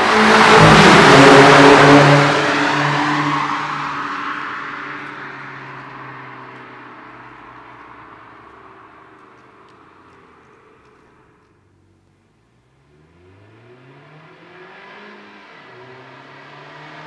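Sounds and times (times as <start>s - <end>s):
car engine and exhaust note: 0.0s - 17.0s.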